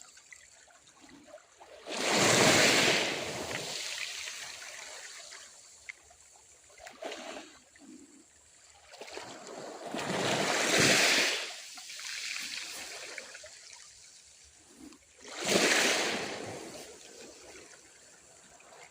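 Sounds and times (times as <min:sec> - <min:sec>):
small waves breaking on shore: 0:00.8 - 0:18.9.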